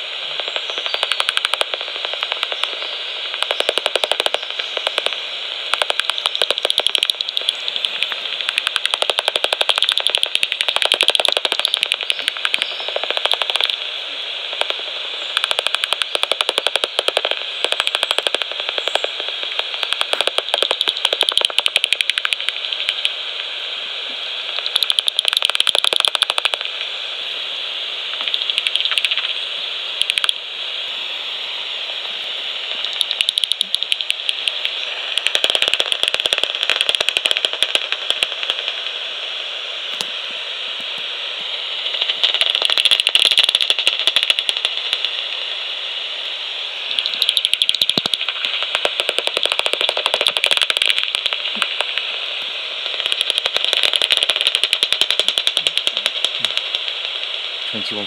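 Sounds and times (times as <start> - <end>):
bat detector rapid clicks: 0.0 - 23.6, 24.3 - 27.0, 28.1 - 30.5, 32.6 - 40.2, 41.8 - 45.6, 46.8 - 58.0
steady hiss: 0.0 - 58.0.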